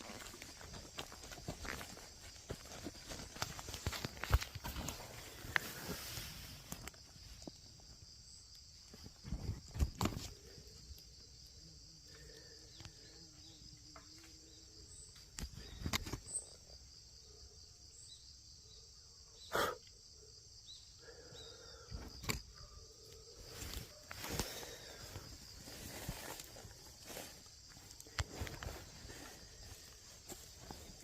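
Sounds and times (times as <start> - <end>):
night insects chirring: 0.0 - 31.0.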